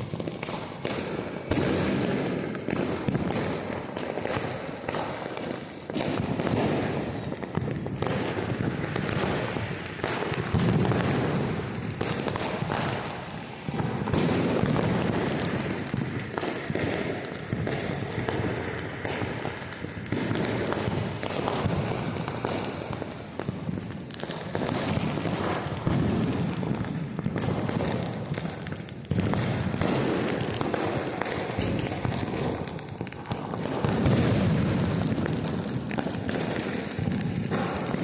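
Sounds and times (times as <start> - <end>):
firecrackers and fireworks banging: 0.0 - 38.0.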